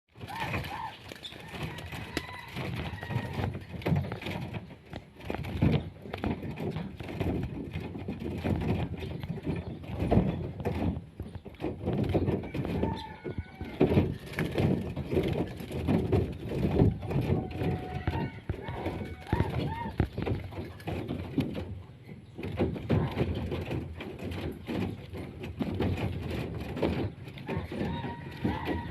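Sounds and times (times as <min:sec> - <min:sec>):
close rustling: 0:00.1 - 0:28.9
irregular thumping: 0:00.1 - 0:28.9.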